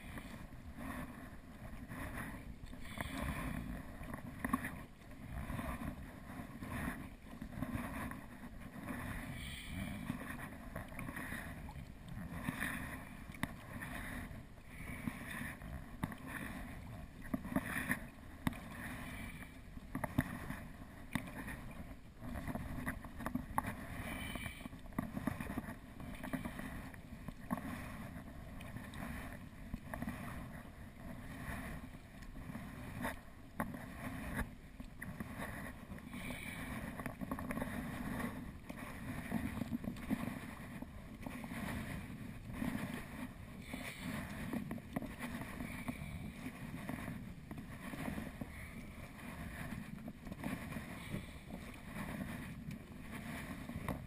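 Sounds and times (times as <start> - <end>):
kayak paddle splashing: 0.0 - 54.0.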